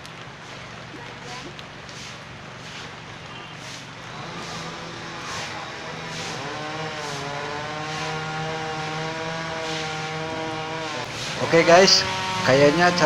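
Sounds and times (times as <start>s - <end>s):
chainsaw cutting tree trunk: 1.8s - 13.0s.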